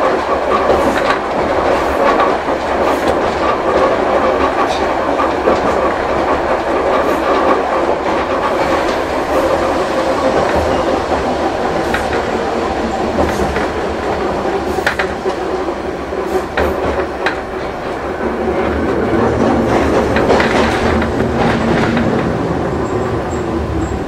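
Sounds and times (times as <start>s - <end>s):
wheel clicks over rail joints: 0.0s - 23.1s
tram running on track: 0.0s - 24.0s.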